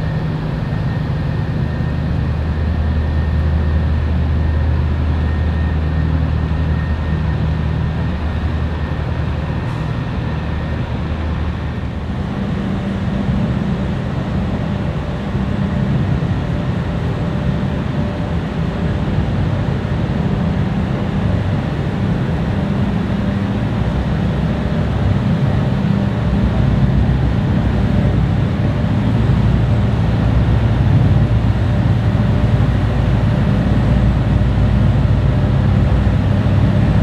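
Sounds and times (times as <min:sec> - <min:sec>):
marine diesel engines droning: 0:00.0 - 0:37.0.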